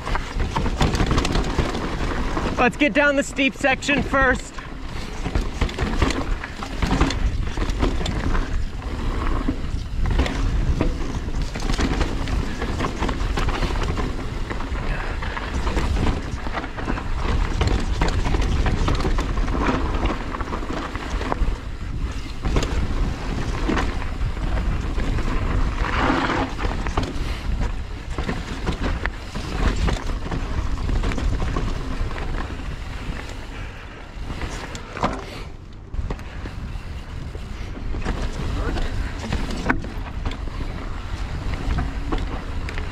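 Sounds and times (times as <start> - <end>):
bike rattling and knocking: 0.0 - 42.9
bike tyres rolling over dirt: 0.0 - 42.9
wind on microphone: 4.1 - 42.9.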